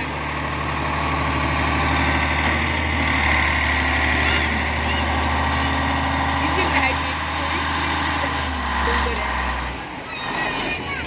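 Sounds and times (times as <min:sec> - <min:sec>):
construction machine diesel engine: 0:00.0 - 0:11.0.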